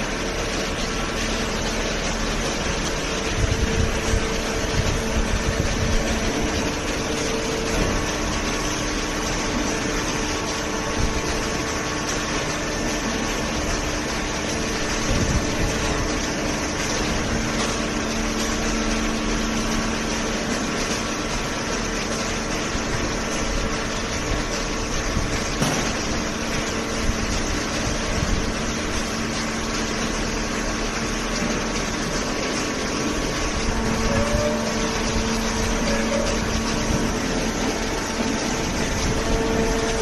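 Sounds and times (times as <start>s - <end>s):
shredder and baler machine din: 0.0s - 40.0s.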